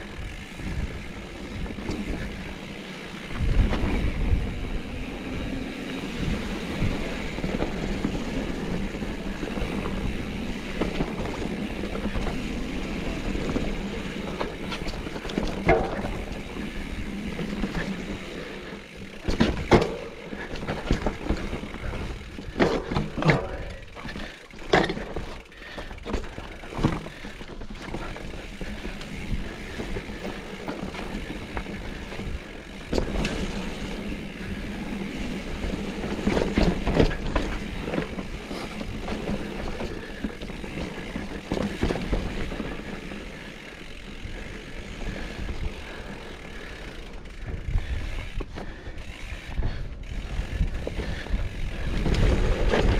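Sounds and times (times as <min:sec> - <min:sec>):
bike knocking and rattling: 0:00.0 - 0:52.9
bike tyres on rough trail: 0:00.0 - 0:52.9.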